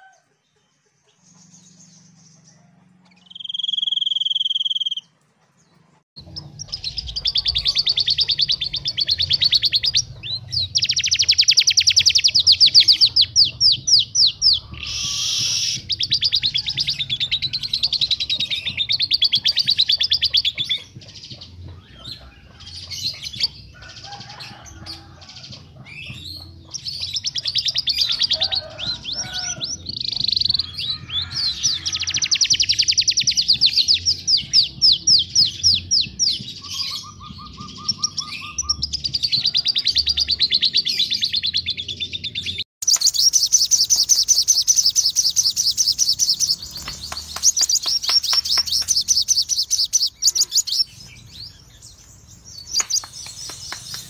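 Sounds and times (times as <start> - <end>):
songbird trilling and chattering: 3.1 - 5.1, 6.2 - 25.1, 25.8 - 54.0.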